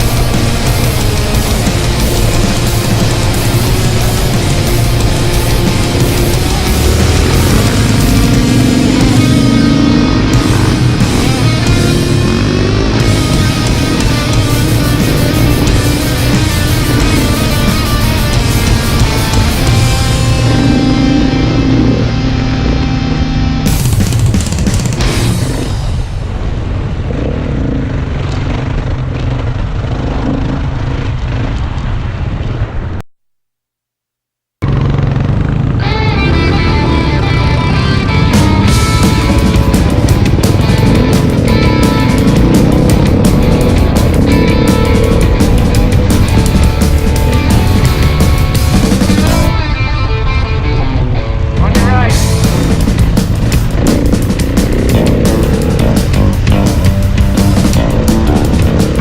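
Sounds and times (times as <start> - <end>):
heavy metal music with drums: 0.0 - 26.9, 34.7 - 59.0
dirt bike engine running: 0.0 - 33.1, 34.6 - 59.0.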